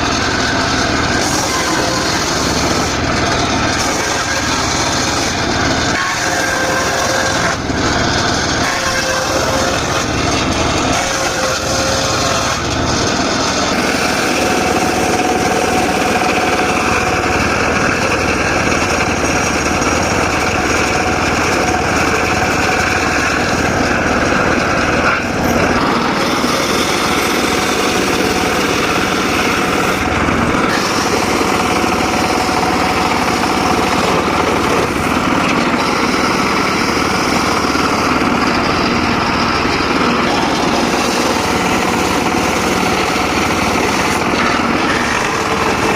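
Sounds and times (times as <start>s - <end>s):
circular saw cutting wood: 0.0s - 45.9s.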